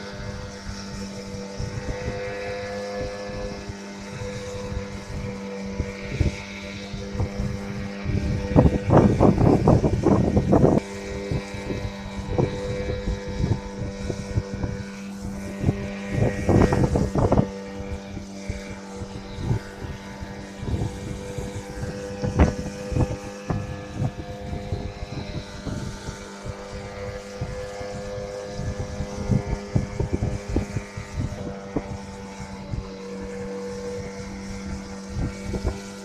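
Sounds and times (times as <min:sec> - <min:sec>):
boat motor droning: 0:00.0 - 0:36.0.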